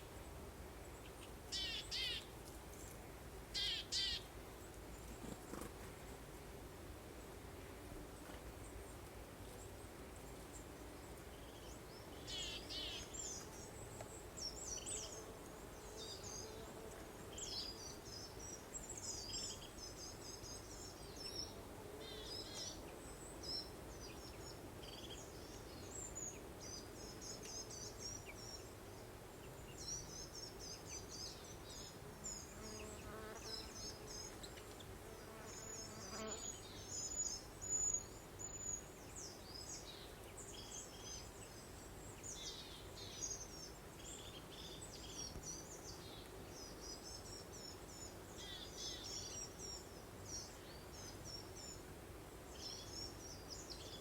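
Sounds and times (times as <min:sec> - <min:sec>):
steady background hiss: 0:00.0 - 0:54.0
songbirds chirping and trilling: 0:08.2 - 0:54.0.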